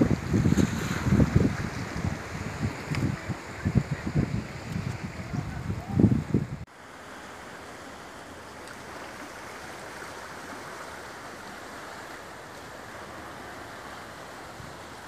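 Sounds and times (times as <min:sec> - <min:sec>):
sea waves washing along shore: 0:00.0 - 0:15.0.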